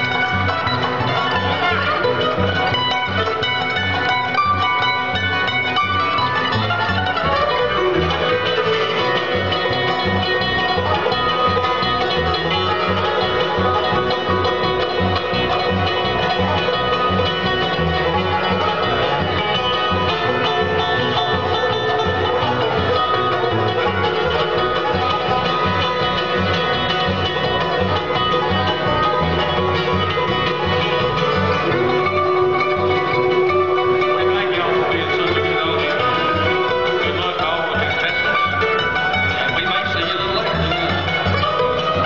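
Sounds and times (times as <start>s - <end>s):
banjo: 0.0s - 42.0s
bluegrass band playing: 0.0s - 42.0s.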